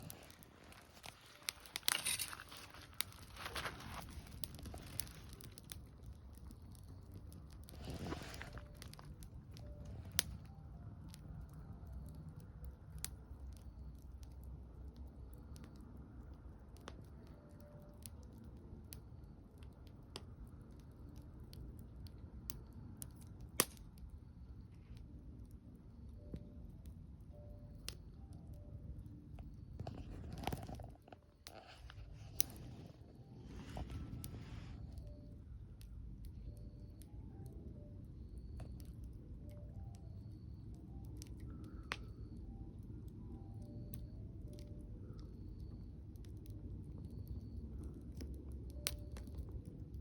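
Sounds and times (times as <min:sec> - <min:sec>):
faint low rumble: 0:00.0 - 0:50.0
wood fire crackling: 0:00.0 - 0:50.0.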